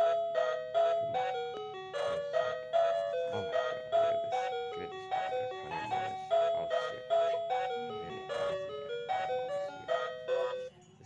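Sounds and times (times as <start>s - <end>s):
bright chiming melody: 0.0s - 11.0s.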